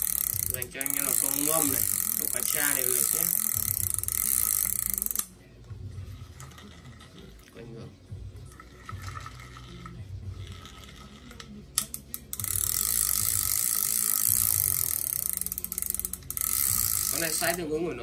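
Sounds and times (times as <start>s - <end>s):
fishing reel ratcheting and whirring: 0.0s - 7.5s, 8.4s - 18.0s.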